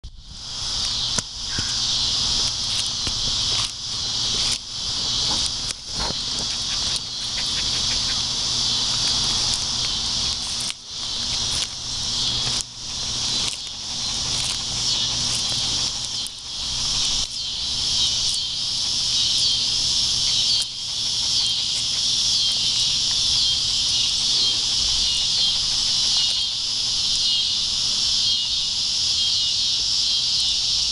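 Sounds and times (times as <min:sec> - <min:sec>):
insects chirping chorus: 0:00.2 - 0:30.9.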